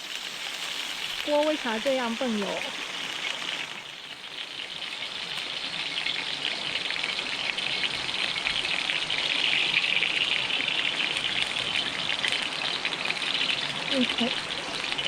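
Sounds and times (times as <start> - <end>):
oil crackling and sizzling in a wok: 0.0 - 15.0.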